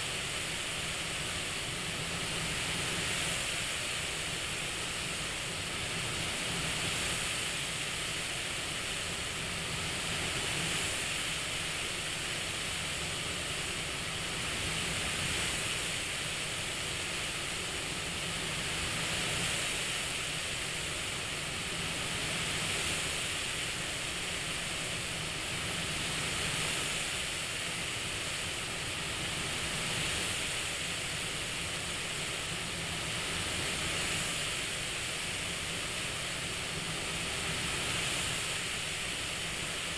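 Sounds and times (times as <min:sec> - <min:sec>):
cpap machine airflow hiss: 0:00.0 - 0:39.9.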